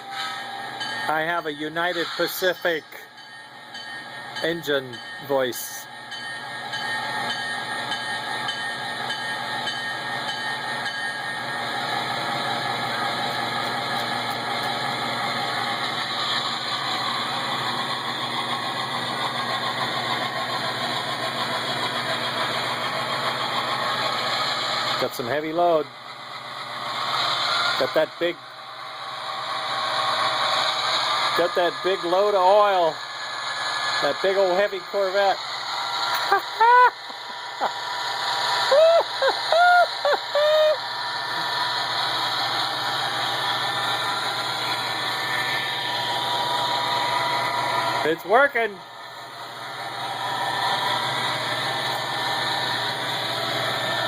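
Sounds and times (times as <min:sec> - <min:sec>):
diesel locomotive engine from speaker: 0:00.0 - 0:54.0
model train rumbling on track: 0:00.0 - 0:54.0.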